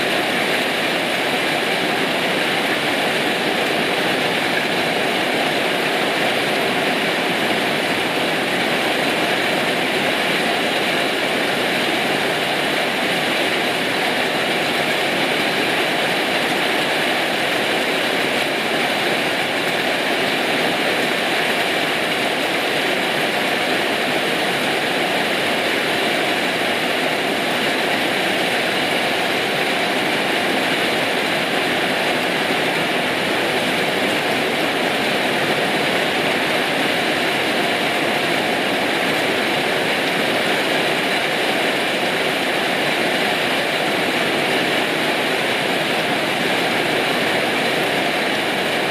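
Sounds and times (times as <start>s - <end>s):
rain falling steadily: 0.0s - 48.9s.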